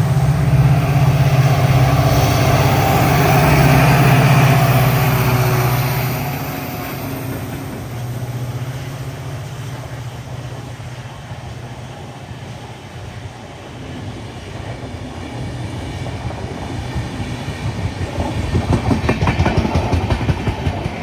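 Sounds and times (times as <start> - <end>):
diesel locomotive engine humming: 0.0 - 21.0.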